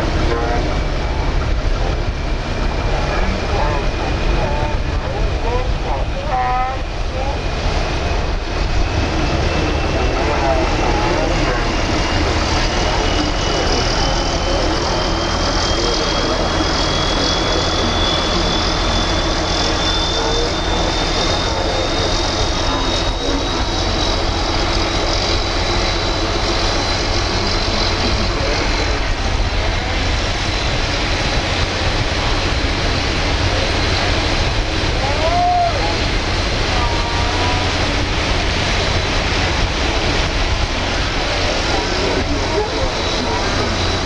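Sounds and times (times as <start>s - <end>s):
boat engine droning: 0.0s - 44.0s.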